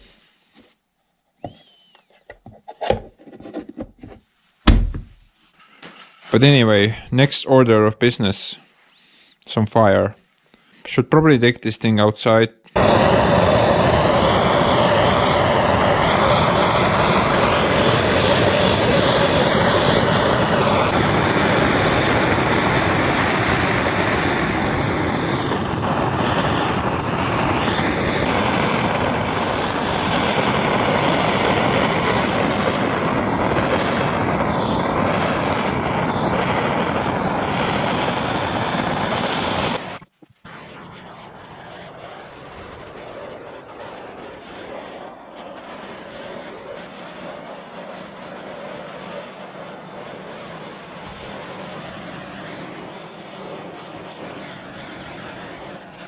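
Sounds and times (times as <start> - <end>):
gas torch flame hissing: 0.0 - 0.2, 4.7 - 7.3, 12.7 - 56.0.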